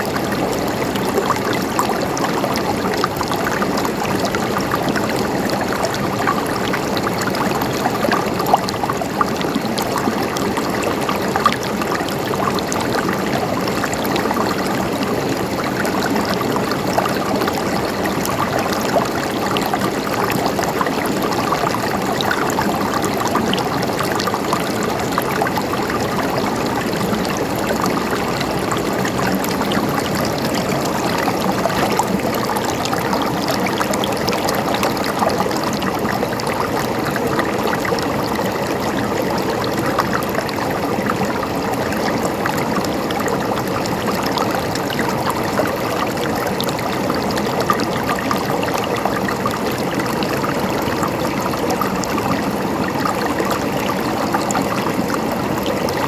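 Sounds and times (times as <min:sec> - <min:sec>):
stream gurgling over rocks: 0:00.0 - 0:56.0.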